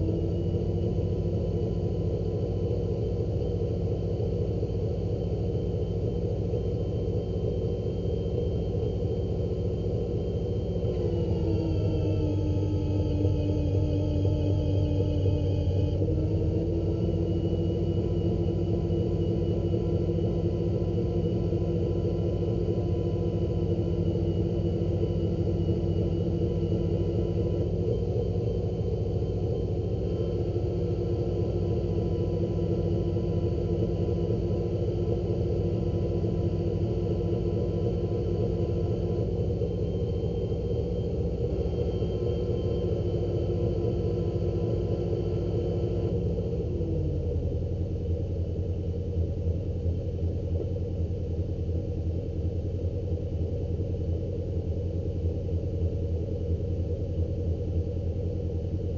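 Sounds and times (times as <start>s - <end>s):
engine running: 0.0s - 58.9s.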